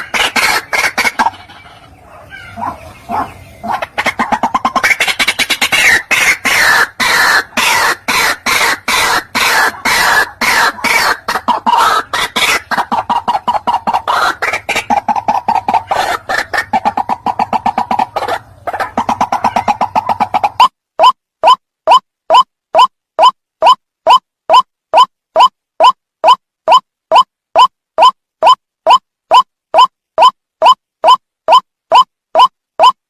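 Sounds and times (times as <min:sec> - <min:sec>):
waterhen calling harsh notes: 0:00.0 - 0:31.2.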